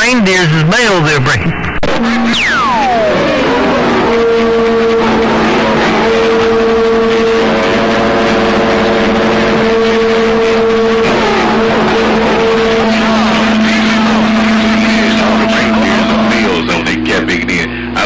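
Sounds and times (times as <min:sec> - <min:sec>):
radio static: 0:00.0 - 0:18.0.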